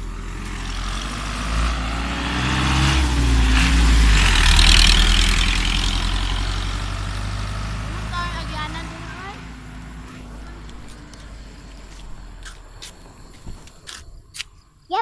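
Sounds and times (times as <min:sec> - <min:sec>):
truck driving past: 0:00.0 - 0:14.3.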